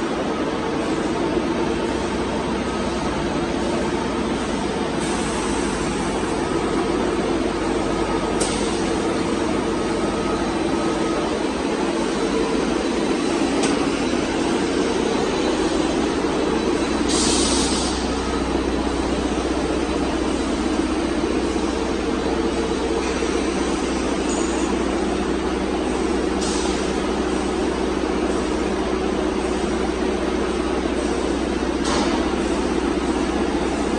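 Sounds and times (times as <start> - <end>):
machinery drone: 0.0 - 33.9.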